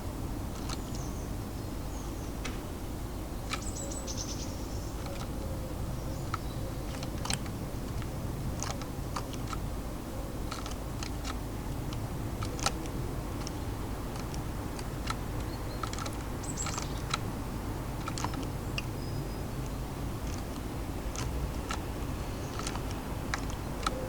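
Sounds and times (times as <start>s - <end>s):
birds pecking seed: 0.3s - 2.0s, 3.1s - 24.0s.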